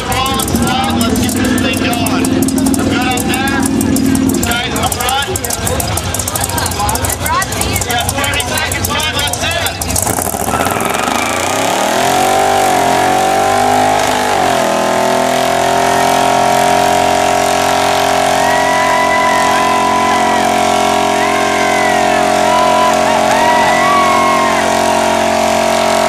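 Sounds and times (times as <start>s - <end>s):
engine revving hard: 0.0s - 26.0s
tyres spinning: 0.0s - 26.0s.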